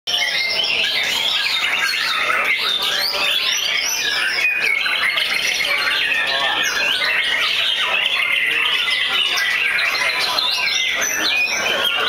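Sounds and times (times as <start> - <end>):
songbirds singing whistled phrases: 0.1 - 12.0.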